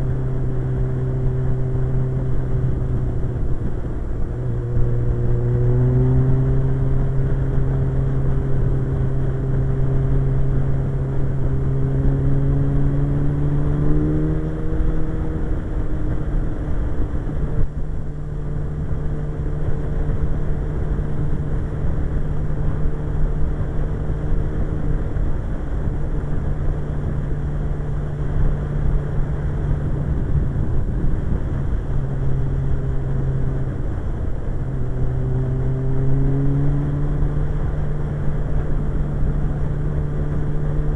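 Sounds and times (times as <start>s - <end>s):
motorcycle engine cruising: 0.0s - 40.9s
wind rumble on microphone: 0.0s - 40.9s.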